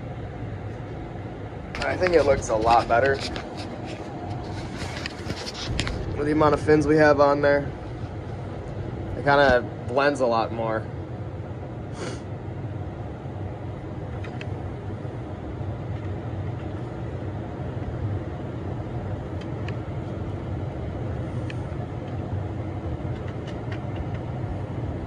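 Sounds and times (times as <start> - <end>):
low mechanical drone: 0.0 - 25.0.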